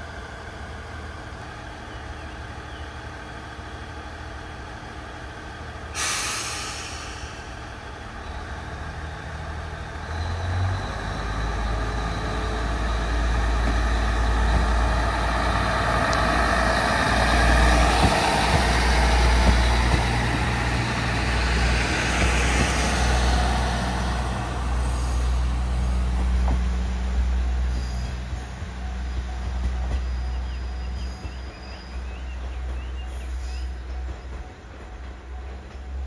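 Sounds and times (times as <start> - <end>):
diesel railcar engine rumbling: 0.0 - 36.0.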